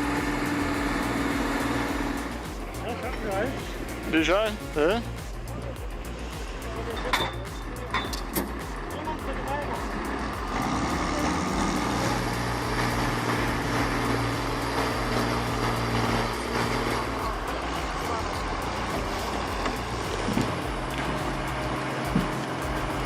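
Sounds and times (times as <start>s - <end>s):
heavy machine engine humming: 0.0s - 23.0s
mechanical noise: 0.0s - 23.0s.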